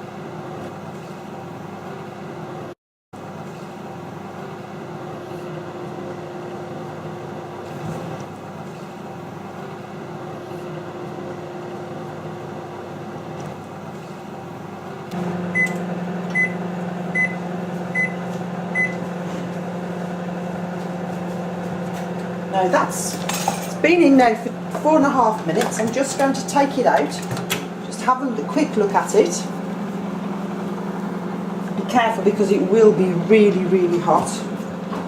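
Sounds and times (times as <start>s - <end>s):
microwave oven humming: 0.0s - 35.0s.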